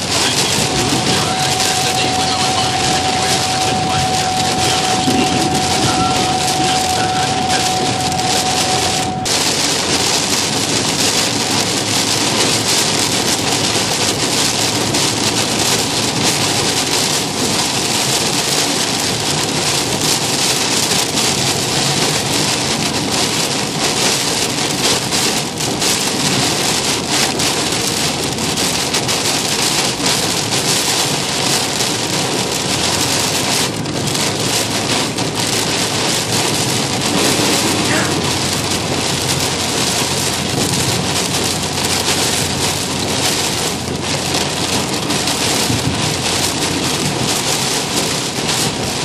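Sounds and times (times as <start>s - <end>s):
heavy rain pouring: 0.0s - 49.0s.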